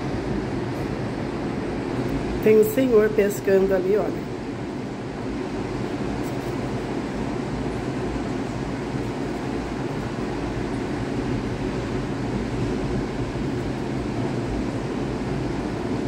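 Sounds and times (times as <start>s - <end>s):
heavy surf roar: 0.0s - 16.0s.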